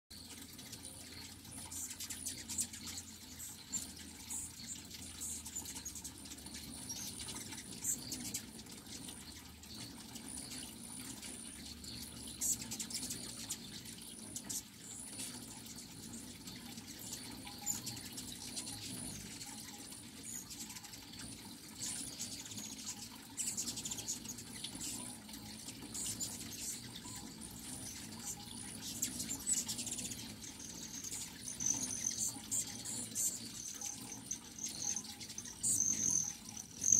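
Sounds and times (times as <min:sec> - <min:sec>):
high-pitched bird chips and squeaks: 0:00.2 - 0:36.9
hummingbird wings whirring: 0:00.2 - 0:36.9.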